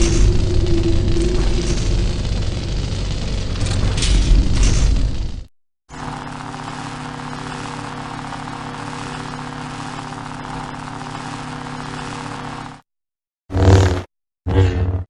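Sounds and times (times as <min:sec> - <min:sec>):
lightsaber electric hum: 0:00.0 - 0:12.8.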